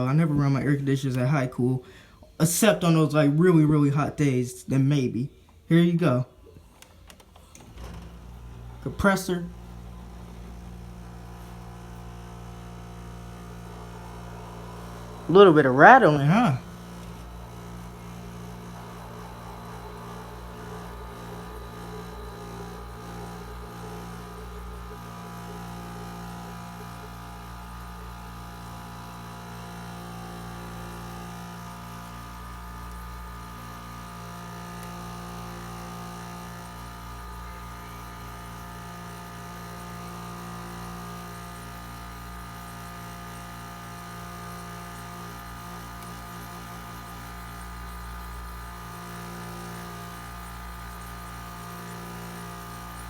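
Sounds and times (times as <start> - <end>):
air conditioner humming: 0.0 - 53.0.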